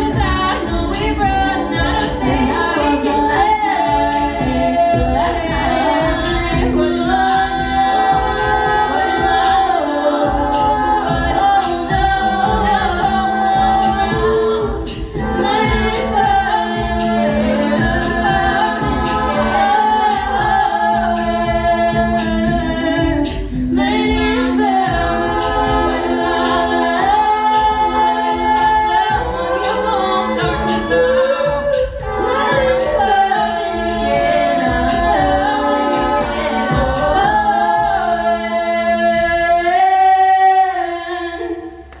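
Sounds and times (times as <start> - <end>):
a cappella ensemble singing: 0.0 - 42.0.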